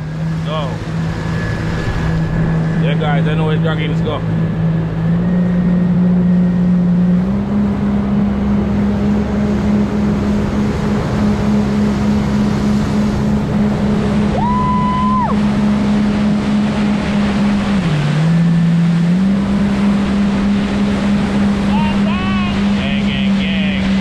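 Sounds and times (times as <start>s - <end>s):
jet ski engine running: 0.0s - 24.0s.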